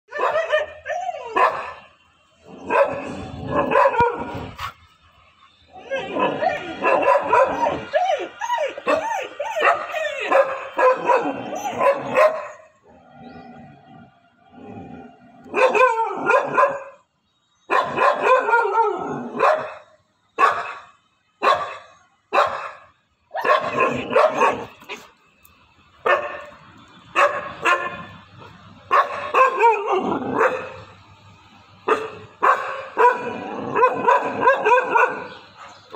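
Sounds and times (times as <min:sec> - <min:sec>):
dogs barking and yelping: 0:00.1 - 0:01.8, 0:02.4 - 0:04.8, 0:05.8 - 0:13.8, 0:14.7 - 0:17.0, 0:17.7 - 0:19.8, 0:20.4 - 0:20.8, 0:21.4 - 0:25.2, 0:26.0 - 0:31.0, 0:31.8 - 0:35.9.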